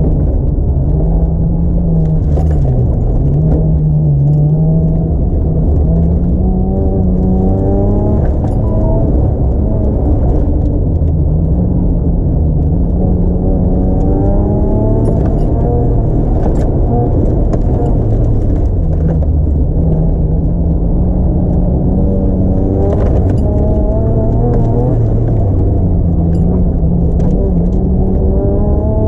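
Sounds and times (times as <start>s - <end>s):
car engine running hard: 0.0s - 29.0s.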